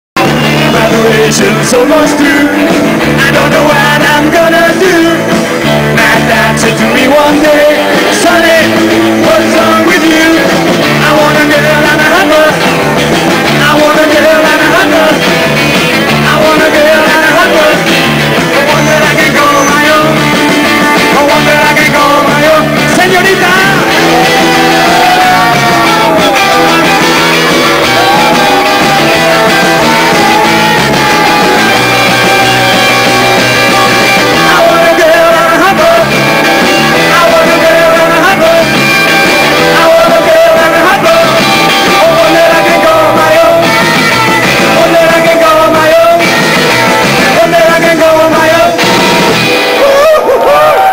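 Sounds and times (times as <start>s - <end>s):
bass guitar: 0.1s - 50.9s
drums beating: 0.2s - 50.9s
electric guitars: 0.2s - 50.9s
person singing: 0.2s - 50.9s.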